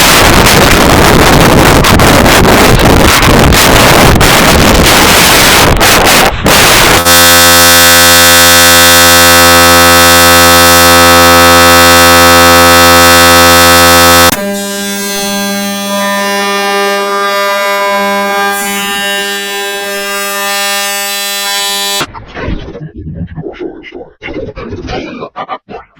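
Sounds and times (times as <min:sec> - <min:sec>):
loud buzzing drone: 0:00.0 - 0:22.1
harsh distorted static: 0:00.0 - 0:25.9.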